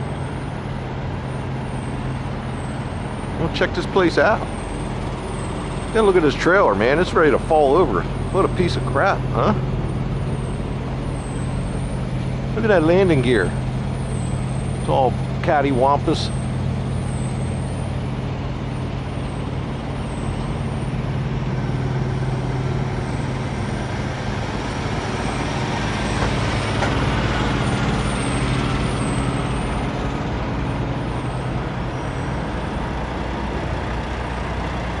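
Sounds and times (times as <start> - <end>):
diesel truck engines idling: 0.0 - 35.0.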